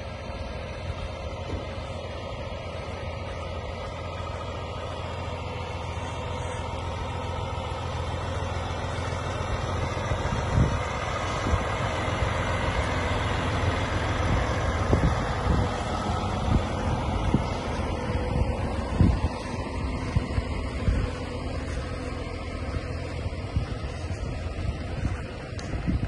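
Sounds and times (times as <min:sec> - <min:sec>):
trailers knocking and rattling: 0:00.0 - 0:26.0
truck diesel engine passing: 0:00.0 - 0:26.0.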